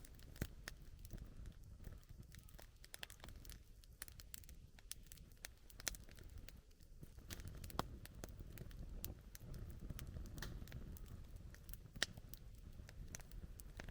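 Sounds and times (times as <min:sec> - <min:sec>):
campfire crackling: 0:00.0 - 0:13.9.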